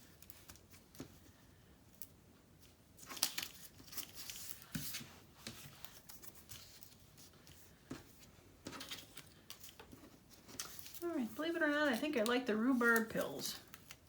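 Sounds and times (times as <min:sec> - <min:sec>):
paper rustling and crinkling: 0:00.0 - 0:14.0.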